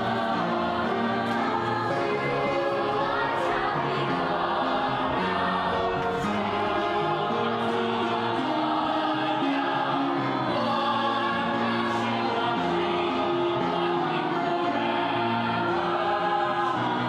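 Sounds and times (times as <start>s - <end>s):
choir singing long notes: 0.0s - 17.0s.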